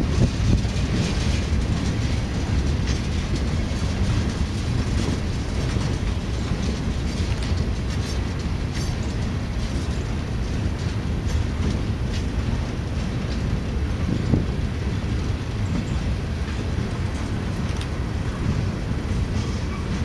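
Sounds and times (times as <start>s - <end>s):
steel wheels rumbling on rail: 0.0s - 20.0s
wheels clicking over rail joints: 0.0s - 20.0s.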